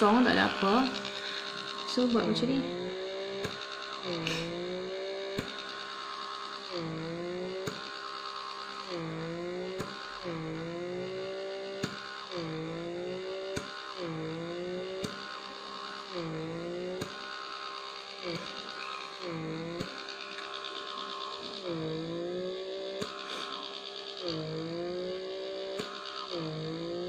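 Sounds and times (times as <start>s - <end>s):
small suction motor humming: 0.0s - 27.0s.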